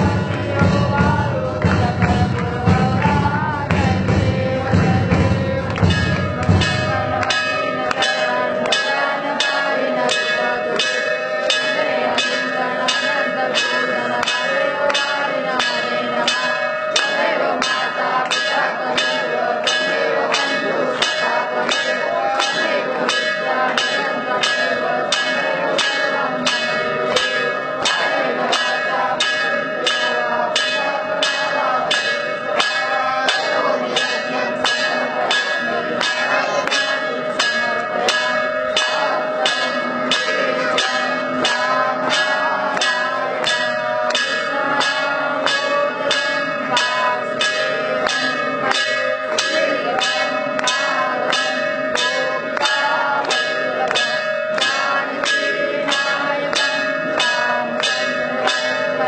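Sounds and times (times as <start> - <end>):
temple bells ringing: 0.0 - 59.0.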